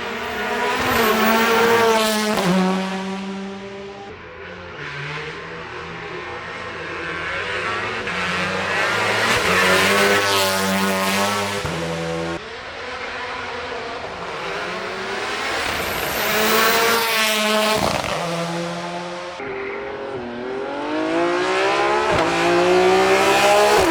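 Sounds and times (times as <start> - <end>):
race car engines accelerating: 0.0 - 23.9.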